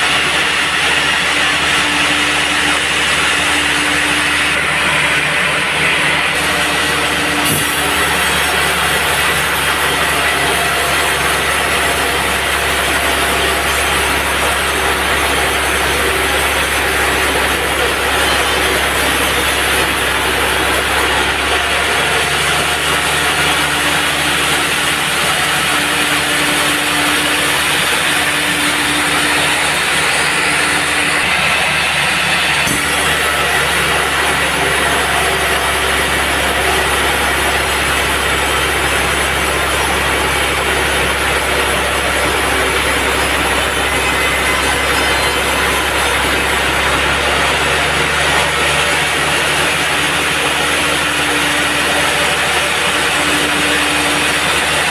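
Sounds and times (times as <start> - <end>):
band sawmill running: 0.0 - 54.9.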